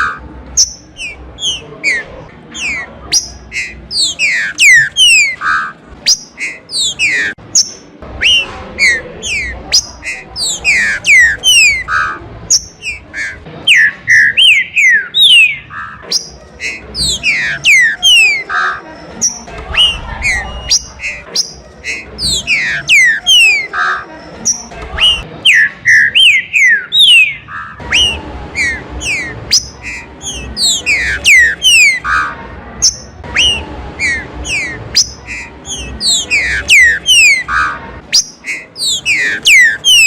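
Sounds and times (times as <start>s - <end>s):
birds singing whistled notes: 0.0s - 40.0s.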